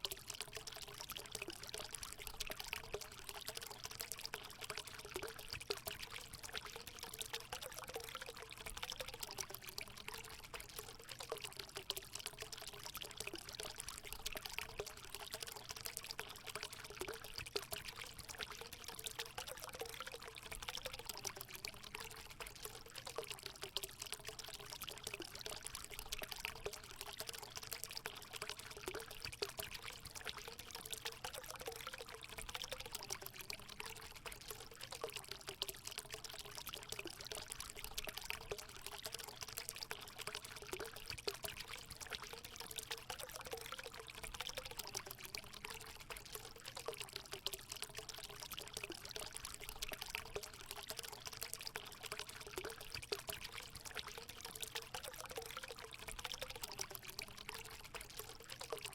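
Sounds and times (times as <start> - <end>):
water pouring into pool: 0.0 - 58.9.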